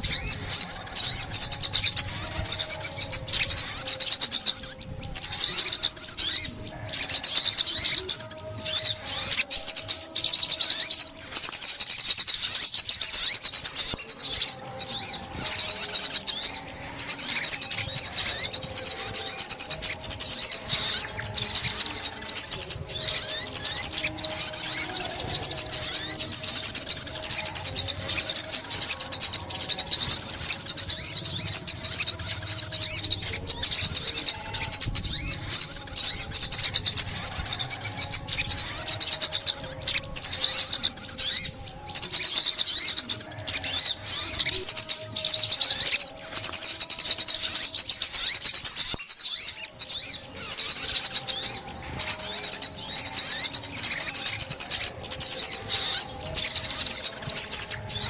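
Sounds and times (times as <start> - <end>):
bird twittering trills: 0.0 - 58.0.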